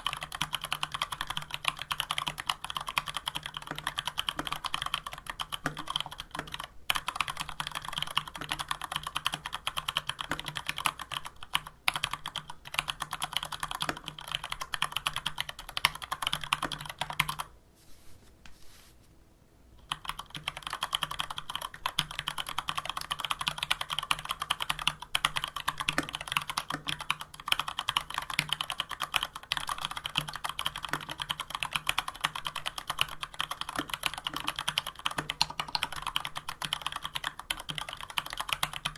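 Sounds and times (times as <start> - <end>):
fast mechanical keyboard typing: 0.0 - 17.5, 19.8 - 38.9.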